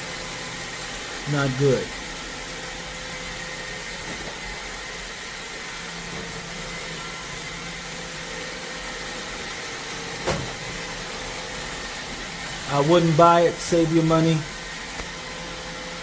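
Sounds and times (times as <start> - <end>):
robot vacuum whirring hum: 0.0 - 16.0.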